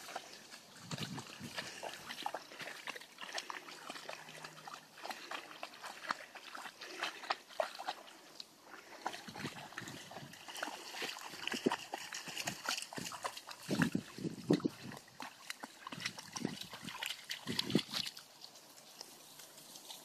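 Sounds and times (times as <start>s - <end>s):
dogs splashing through water: 0.0s - 20.0s.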